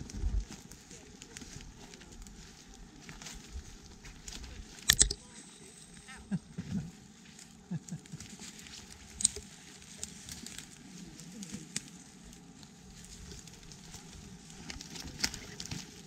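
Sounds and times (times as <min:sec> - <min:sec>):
dry twigs crackling underfoot: 0:00.0 - 0:16.0.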